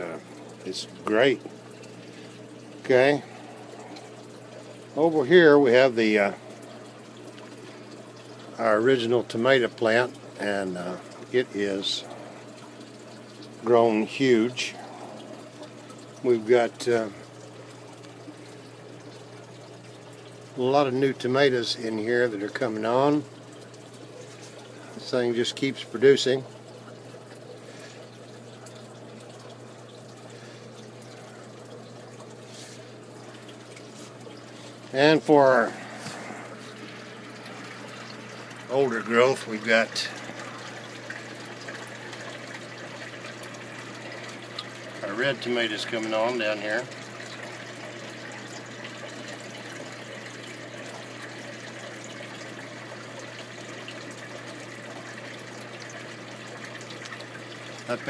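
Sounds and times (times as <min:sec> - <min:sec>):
low steady hum: 0:00.0 - 0:58.0
water trickling: 0:00.0 - 0:58.0.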